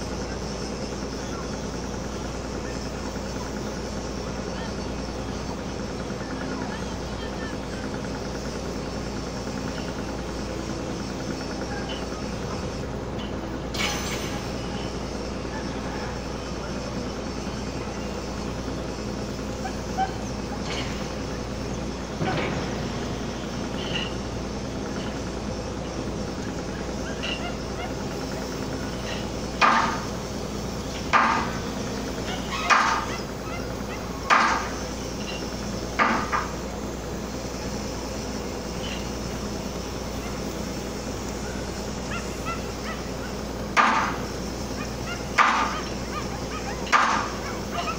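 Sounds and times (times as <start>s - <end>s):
ship engine humming: 0.0s - 47.9s.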